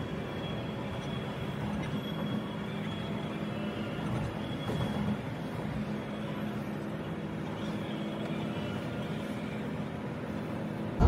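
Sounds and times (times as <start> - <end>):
diesel coach engine hum: 0.0 - 11.0
road and tyre noise: 0.0 - 11.0.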